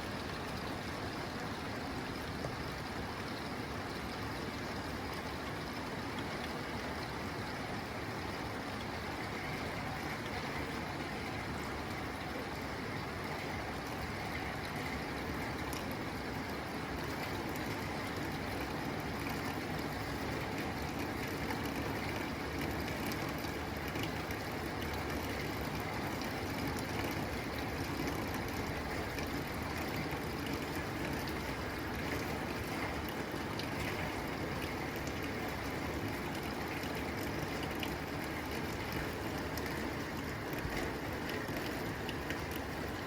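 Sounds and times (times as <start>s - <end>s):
rain on a tin roof: 0.0s - 43.0s.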